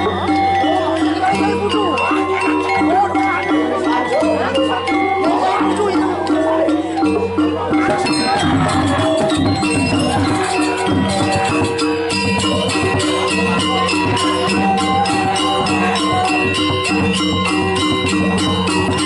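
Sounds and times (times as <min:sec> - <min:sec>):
gamelan metallophones and gongs: 0:00.0 - 0:19.0.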